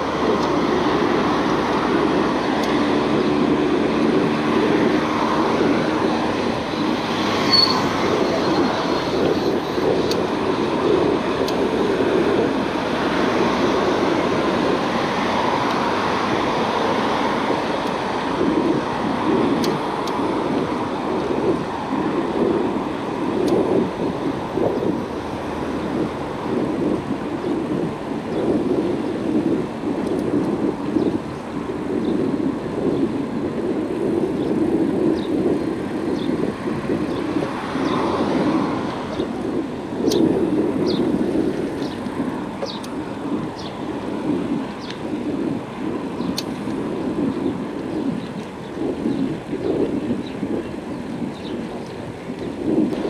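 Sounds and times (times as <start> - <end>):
car traffic: 0.0 - 53.0
wind rush on microphone: 0.0 - 53.0.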